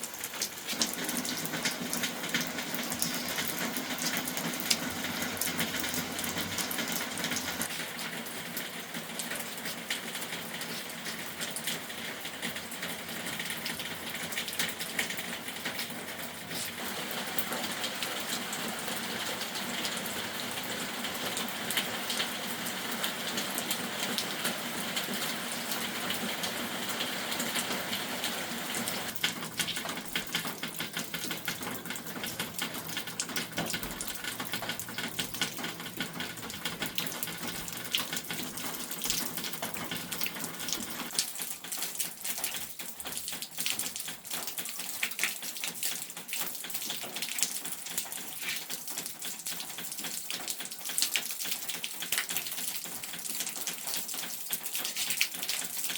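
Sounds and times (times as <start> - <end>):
water dripping: 0.0 - 55.9
water running and splashing: 0.0 - 55.9.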